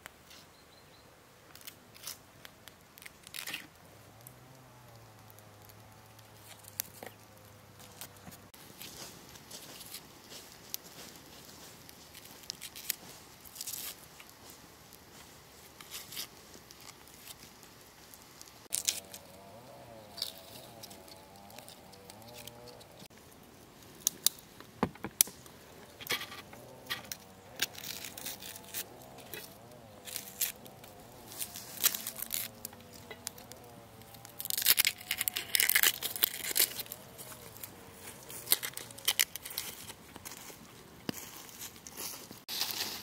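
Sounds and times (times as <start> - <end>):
tearing and crinkling: 1.5 - 23.2, 26.0 - 43.0
crackling: 1.5 - 43.0.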